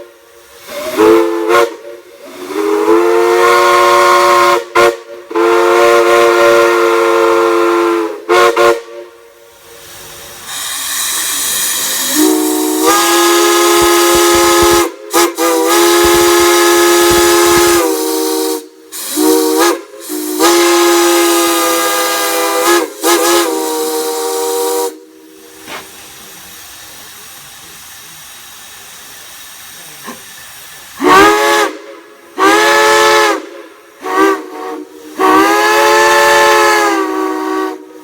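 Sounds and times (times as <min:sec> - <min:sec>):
steam whistle blasts: 0:00.0 - 0:09.8, 0:10.5 - 0:25.9, 0:31.0 - 0:38.0
steam hissing: 0:00.0 - 0:38.0.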